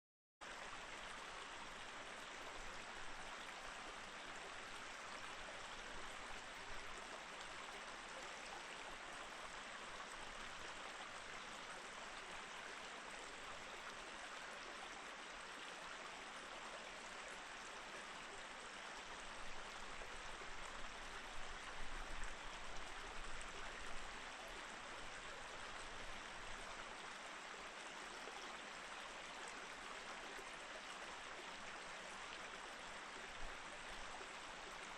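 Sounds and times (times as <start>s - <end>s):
stream flowing over rocks: 0.4s - 34.9s.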